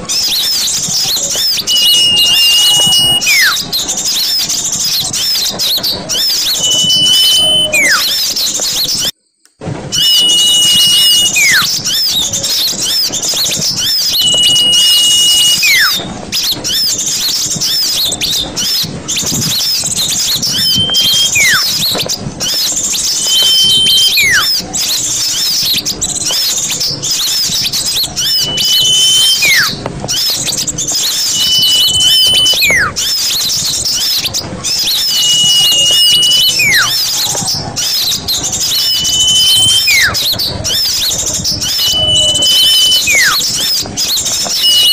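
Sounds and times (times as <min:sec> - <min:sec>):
high-pitched bird chirps: 0:00.0 - 0:09.1, 0:09.9 - 0:44.9
whistled bird call: 0:00.0 - 0:09.2, 0:09.8 - 0:44.9.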